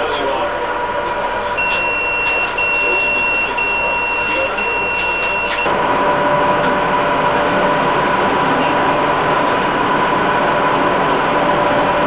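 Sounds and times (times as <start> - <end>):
station crowd hubbub: 0.0 - 12.0
steady hum: 0.7 - 12.0.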